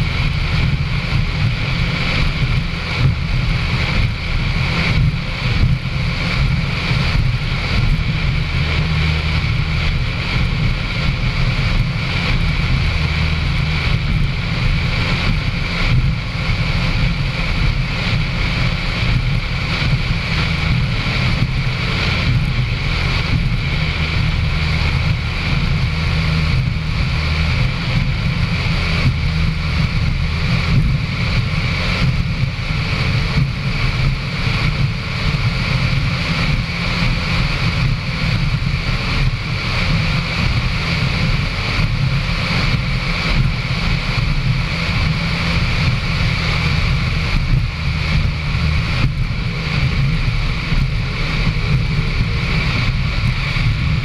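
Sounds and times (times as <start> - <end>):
powerboat engine running: 0.0 - 54.0.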